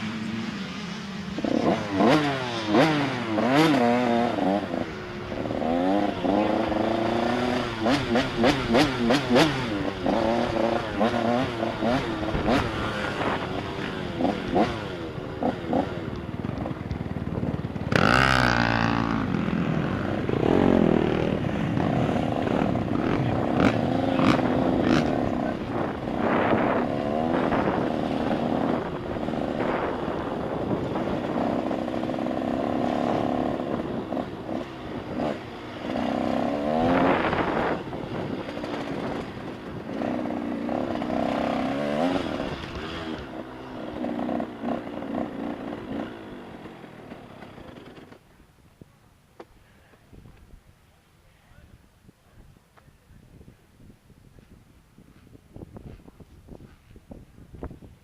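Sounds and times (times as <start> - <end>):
motocross bikes revving: 0.0 - 48.3.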